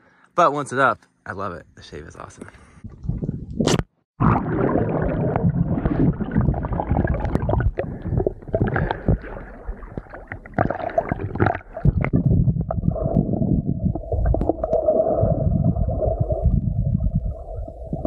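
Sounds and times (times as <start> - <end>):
water sloshing and gurgling: 2.8 - 18.0.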